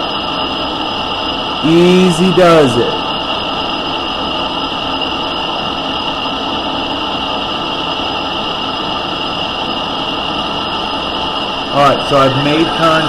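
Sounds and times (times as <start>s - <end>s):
lathe running with whine: 0.0s - 13.0s.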